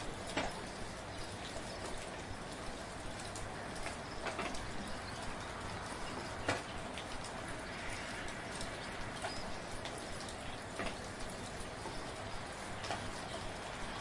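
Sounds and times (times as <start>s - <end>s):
raindrops tapping: 0.0s - 14.0s
steady rain falling: 0.0s - 14.0s.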